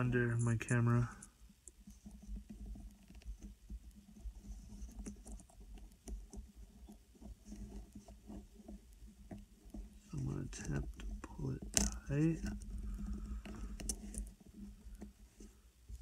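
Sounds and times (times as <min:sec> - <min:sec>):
small clicks and taps of metal parts: 0:00.4 - 0:16.0.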